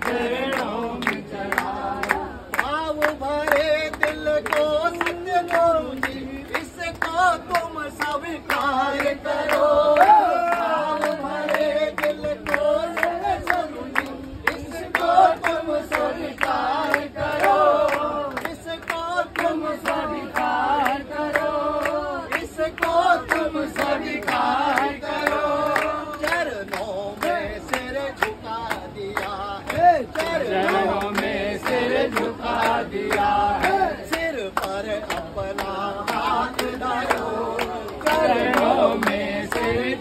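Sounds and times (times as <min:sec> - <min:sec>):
men singing devotional song: 0:00.0 - 0:40.0
rhythmic hand clapping: 0:00.0 - 0:40.0.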